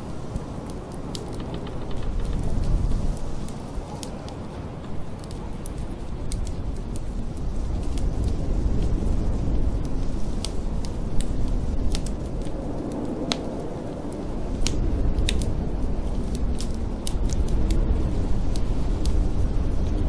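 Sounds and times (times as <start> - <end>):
storm wind: 0.0 - 20.0
wood fire crackling: 0.0 - 20.0.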